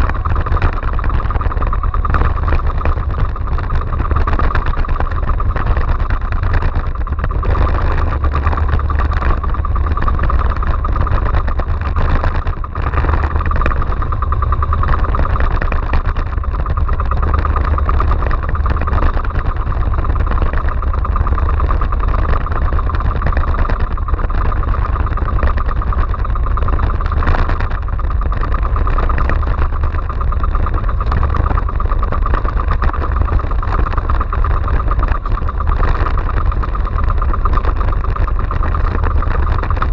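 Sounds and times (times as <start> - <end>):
boat engine running: 0.0 - 39.9
wind: 0.0 - 39.9.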